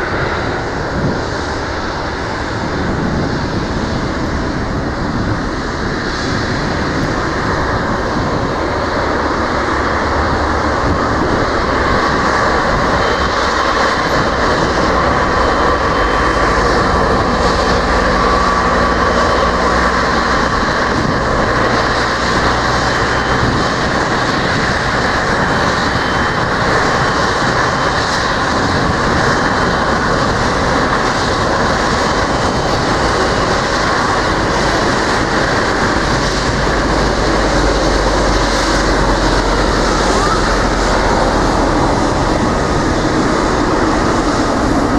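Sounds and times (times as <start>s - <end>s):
jet engines running: 0.0s - 44.9s.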